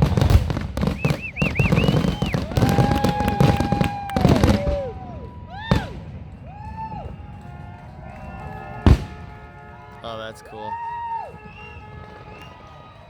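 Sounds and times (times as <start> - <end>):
fireworks bangs and crackling: 0.0 - 13.0
fireworks whistling: 0.0 - 13.0.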